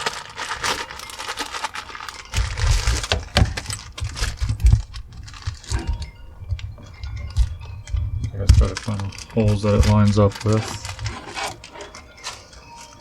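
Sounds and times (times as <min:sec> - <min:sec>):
rustling: 0:00.0 - 0:13.0
small metal parts clinking: 0:00.0 - 0:13.0.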